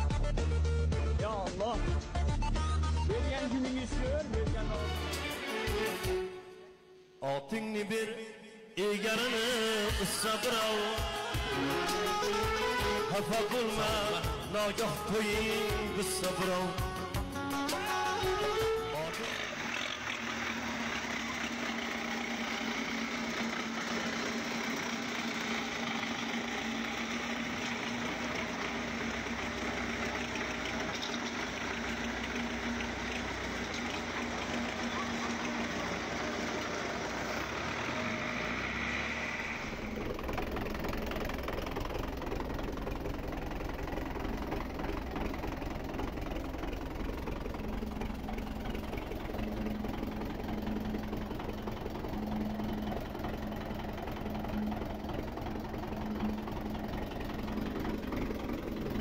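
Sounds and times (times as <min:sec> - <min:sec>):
tractor diesel engine running: 0:00.0 - 0:06.4, 0:08.8 - 0:59.0.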